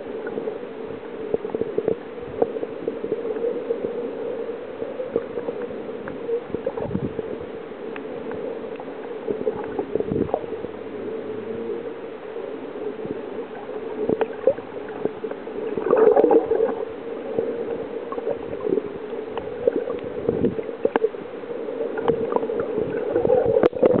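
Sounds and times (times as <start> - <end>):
steady underwater hum: 0.0 - 24.0
underwater water gurgling and sloshing: 0.0 - 24.0.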